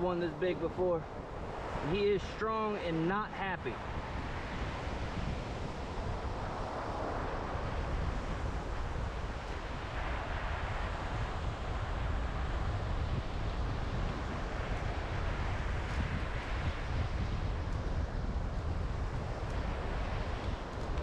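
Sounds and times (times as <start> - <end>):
wind buffeting microphone: 0.0 - 2.8, 3.5 - 21.0
surf washing on beach: 0.0 - 21.0.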